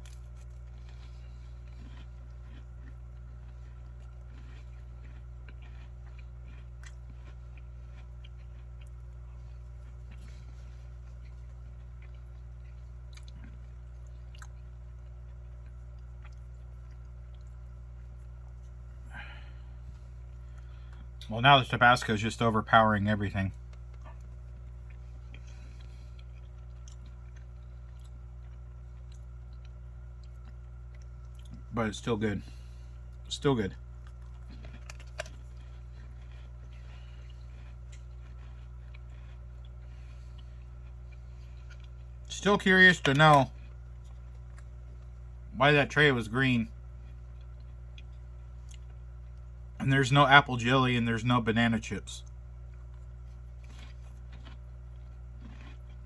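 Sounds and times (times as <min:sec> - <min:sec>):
person chewing food: 0:00.0 - 0:21.3, 0:23.2 - 0:45.5, 0:46.7 - 0:49.8, 0:52.2 - 0:56.0
steady low hum: 0:00.0 - 0:56.0.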